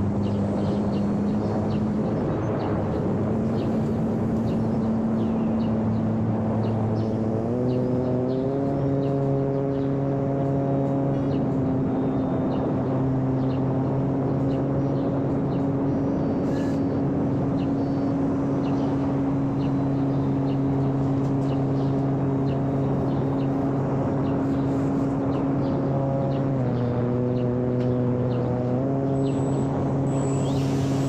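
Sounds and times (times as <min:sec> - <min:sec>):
electric motor and propeller drone: 0:00.0 - 0:31.0.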